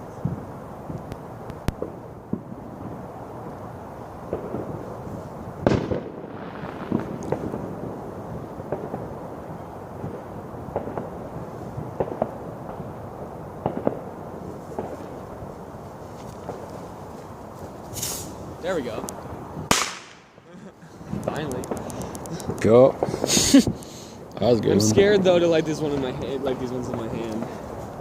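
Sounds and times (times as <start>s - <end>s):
fireworks banging and popping: 0.1s - 3.1s, 4.2s - 28.0s.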